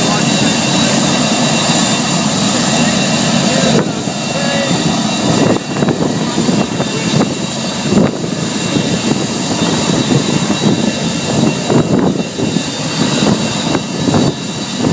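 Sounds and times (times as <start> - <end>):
jet engines rumbling with high whine: 0.0 - 14.9.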